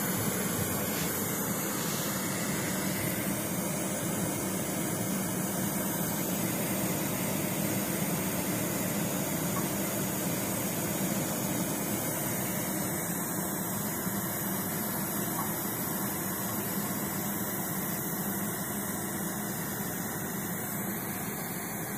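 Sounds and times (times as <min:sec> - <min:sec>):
kerosene stove burner hissing: 0:00.0 - 0:21.9.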